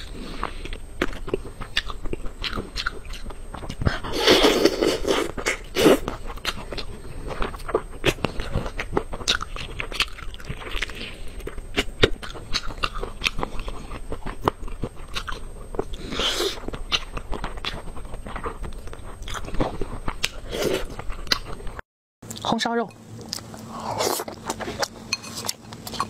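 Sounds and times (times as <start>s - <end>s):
chewing and biting: 0.0s - 22.5s, 23.2s - 26.0s.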